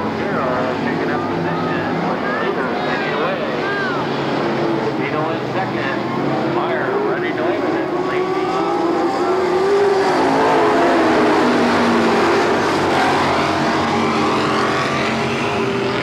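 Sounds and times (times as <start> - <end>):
racing car engines passing: 0.0 - 16.0.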